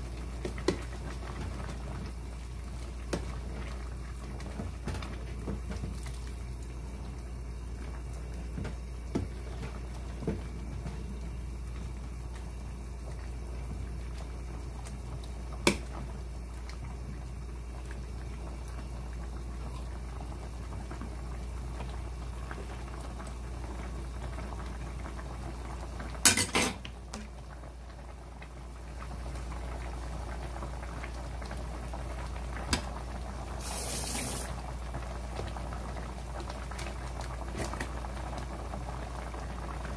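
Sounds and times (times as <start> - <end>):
stew bubbling in a pot: 0.0 - 39.9.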